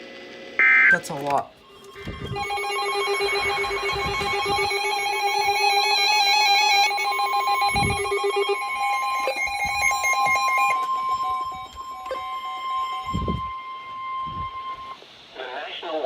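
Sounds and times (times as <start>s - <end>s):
steady alert tone: 1.6s - 15.0s
warbling digital data burst: 1.6s - 15.0s.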